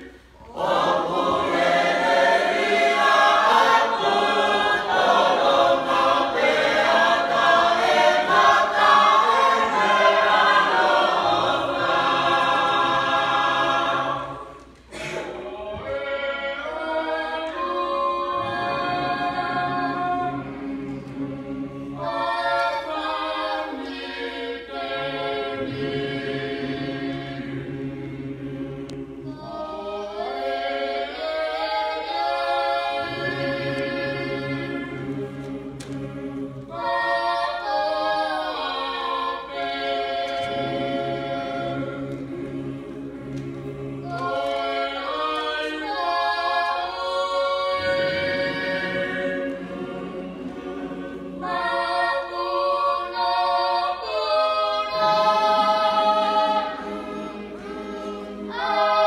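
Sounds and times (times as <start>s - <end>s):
choir singing a hymn unaccompanied: 0.0s - 59.0s.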